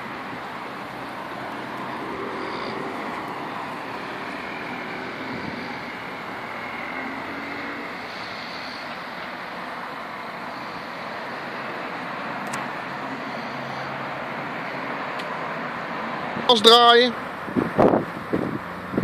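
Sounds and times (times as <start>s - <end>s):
distant road traffic hum: 0.0s - 19.0s.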